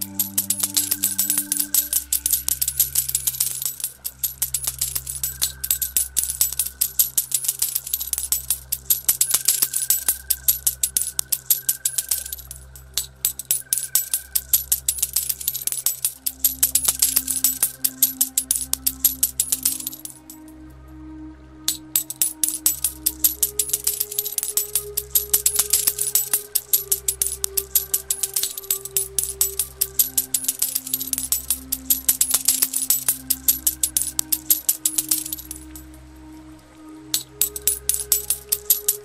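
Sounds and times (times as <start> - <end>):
coins clinking: 0.0 - 20.5, 21.7 - 36.0, 37.1 - 39.0
calm synthesizer music: 0.0 - 39.0.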